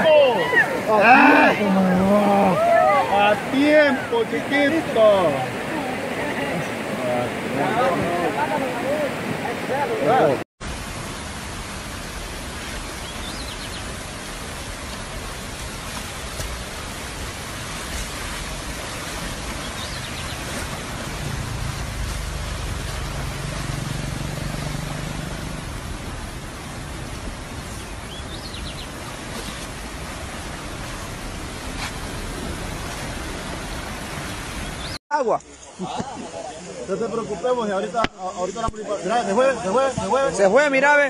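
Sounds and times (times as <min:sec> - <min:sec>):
river rushing: 0:00.0 - 0:41.0.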